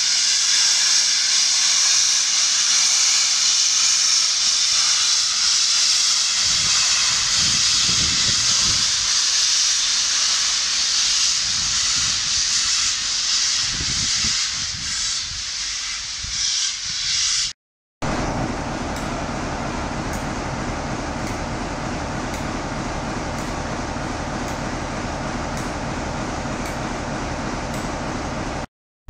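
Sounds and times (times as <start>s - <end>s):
steam locomotive hissing steam: 0.0s - 28.6s.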